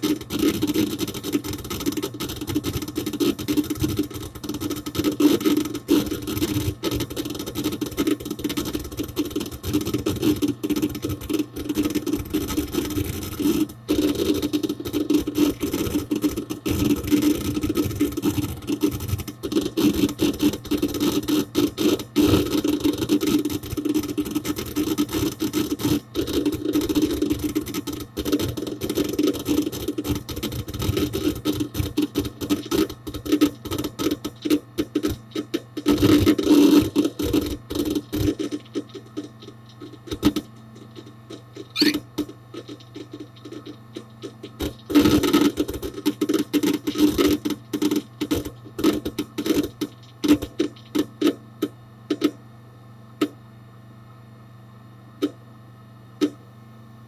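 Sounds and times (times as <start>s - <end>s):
hard disk drive clicking: 0.0s - 52.4s
steady low hum: 0.0s - 57.0s.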